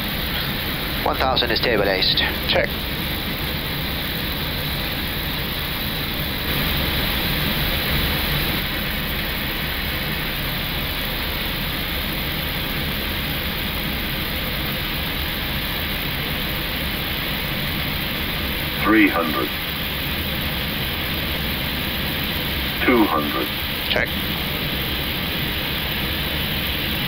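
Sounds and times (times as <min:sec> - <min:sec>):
airflow and aircraft engine noise: 0:00.0 - 0:27.0.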